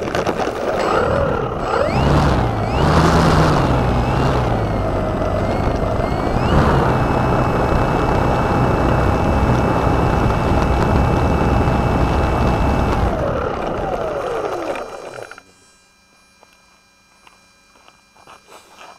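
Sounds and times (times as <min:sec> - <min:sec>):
rough vibration noise: 0:00.0 - 0:15.8
electric motor and propeller whine: 0:00.0 - 0:18.9.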